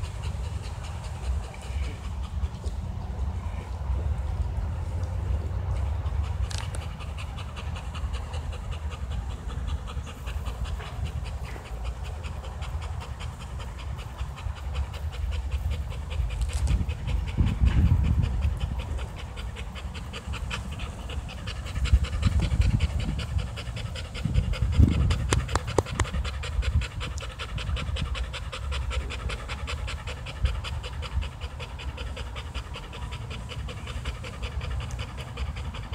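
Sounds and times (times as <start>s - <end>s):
dog panting: 0.0s - 35.9s.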